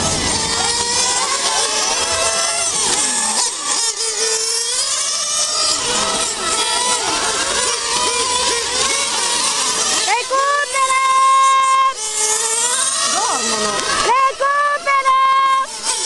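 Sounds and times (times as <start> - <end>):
model car engines revving: 0.0 - 16.0.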